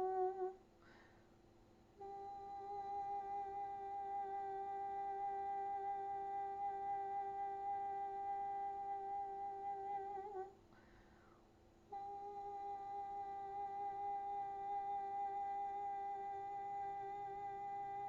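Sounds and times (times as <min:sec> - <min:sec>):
woman humming high tone: 0:00.0 - 0:00.7, 0:02.0 - 0:10.6, 0:11.9 - 0:18.0.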